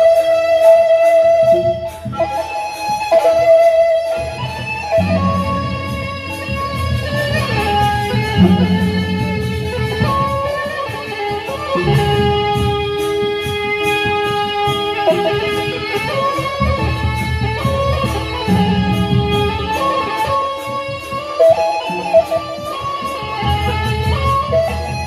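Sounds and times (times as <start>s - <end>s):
bamboo flute playing long notes: 0.0s - 25.0s
rhythmic accompaniment: 0.0s - 25.0s.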